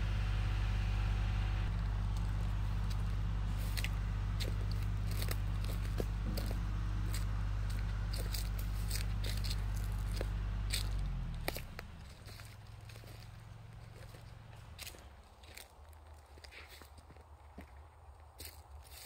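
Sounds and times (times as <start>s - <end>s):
tractor engine running: 0.0s - 17.7s
twigs and brush snapping: 1.7s - 19.0s.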